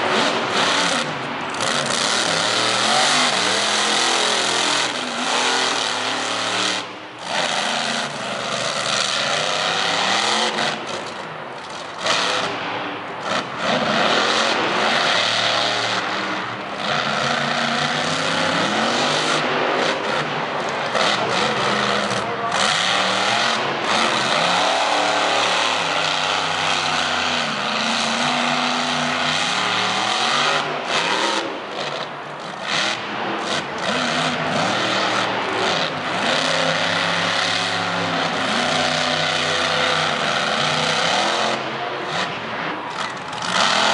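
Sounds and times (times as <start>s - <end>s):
truck engine revving hard: 0.0s - 43.9s.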